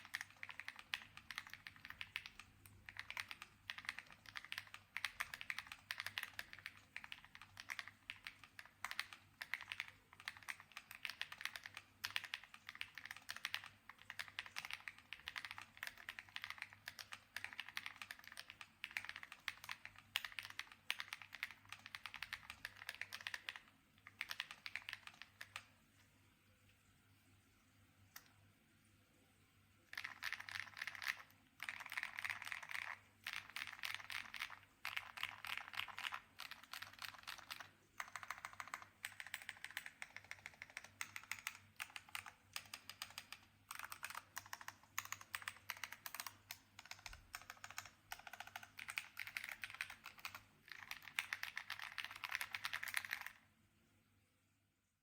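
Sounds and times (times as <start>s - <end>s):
fast mechanical keyboard typing: 0.0s - 25.7s, 29.9s - 53.4s.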